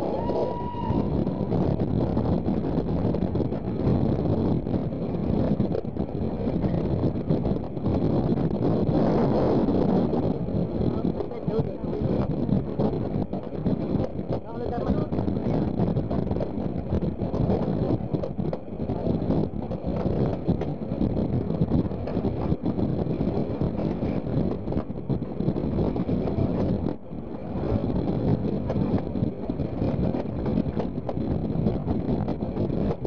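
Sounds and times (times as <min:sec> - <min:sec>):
train coaches rumbling on track: 0:00.0 - 0:33.0
wind buffeting microphone: 0:00.0 - 0:33.0.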